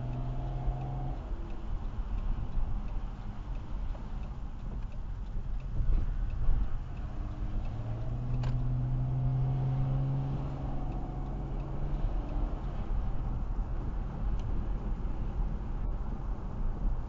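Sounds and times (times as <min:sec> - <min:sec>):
low engine hum: 0:00.0 - 0:17.0
road rumble: 0:00.0 - 0:17.0.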